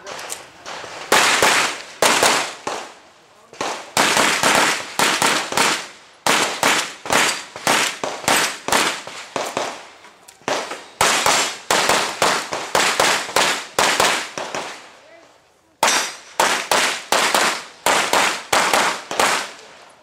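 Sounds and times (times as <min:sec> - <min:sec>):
rapid pistol shots: 0:00.7 - 0:03.0, 0:03.6 - 0:09.9, 0:10.5 - 0:14.9, 0:15.8 - 0:19.7.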